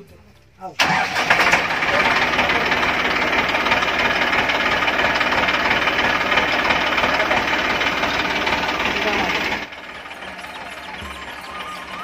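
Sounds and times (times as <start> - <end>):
diesel tractor engine idling: 0.8 - 12.0.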